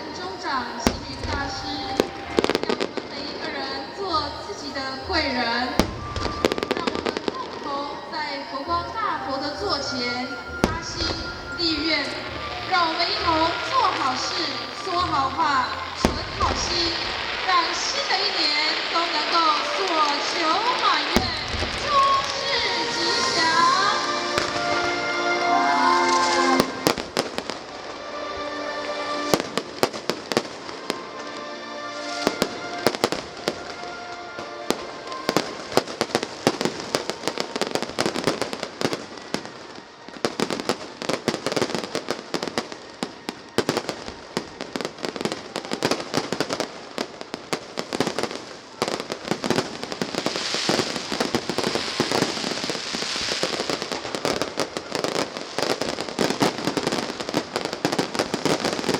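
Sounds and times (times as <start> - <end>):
fireworks bangs and crackles: 0.0 - 58.9
hissing crackle: 0.0 - 58.9
music: 0.0 - 58.9.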